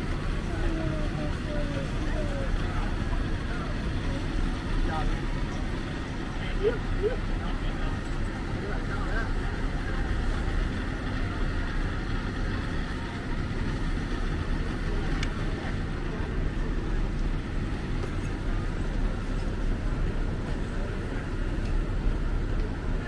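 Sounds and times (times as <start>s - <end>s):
train rumbling on tracks: 0.0s - 23.0s.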